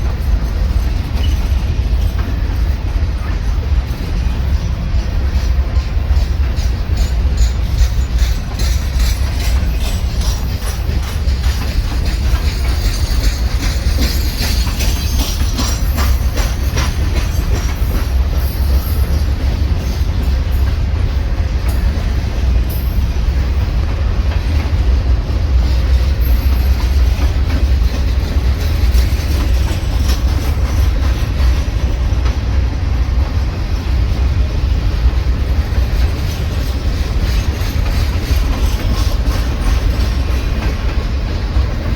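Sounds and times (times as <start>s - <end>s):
train cars rumbling past: 0.0s - 41.9s
wheels clicking over rail joints: 0.0s - 41.9s.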